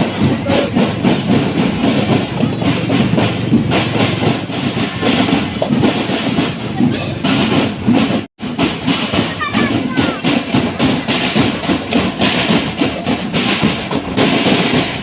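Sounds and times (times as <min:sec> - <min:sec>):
marching drum band playing: 0:00.0 - 0:15.0.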